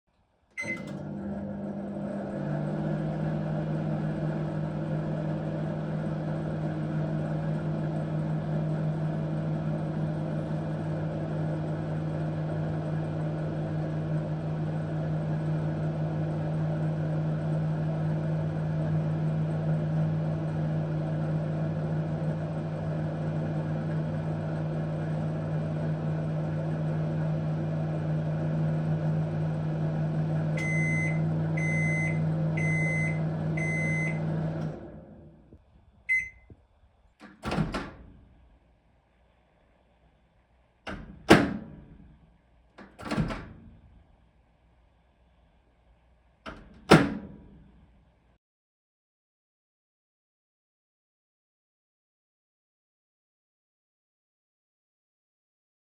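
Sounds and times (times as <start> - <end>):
microwave oven humming: 0.3 - 48.4.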